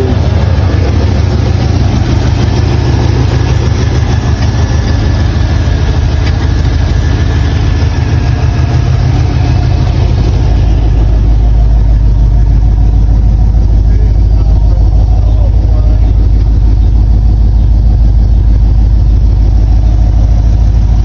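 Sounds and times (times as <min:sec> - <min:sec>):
car engine running loud: 0:00.0 - 0:21.0.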